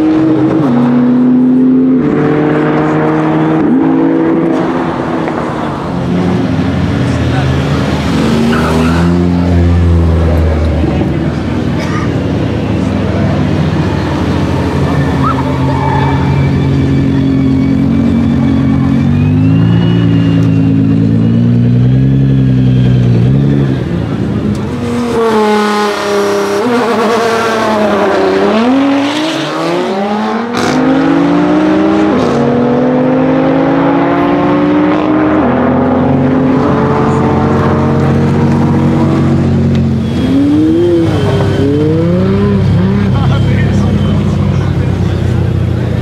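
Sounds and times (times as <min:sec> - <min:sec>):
engine revving: 0:00.0 - 0:11.5, 0:12.3 - 0:46.0
cars accelerating hard: 0:00.0 - 0:46.0
loud car exhaust: 0:00.0 - 0:46.0.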